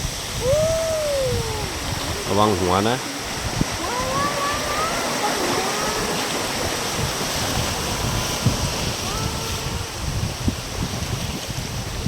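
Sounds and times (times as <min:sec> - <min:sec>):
water rushing: 0:00.0 - 0:12.0
wind buffeting microphone: 0:00.0 - 0:12.0.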